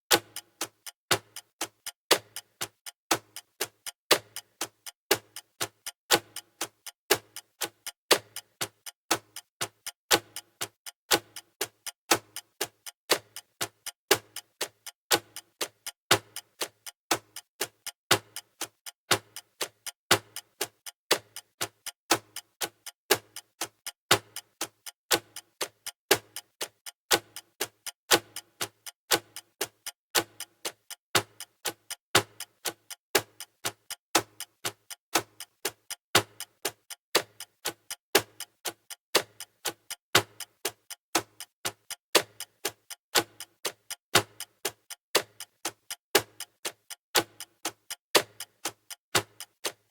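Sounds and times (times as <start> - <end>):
clock ticking: 0.1 - 49.9.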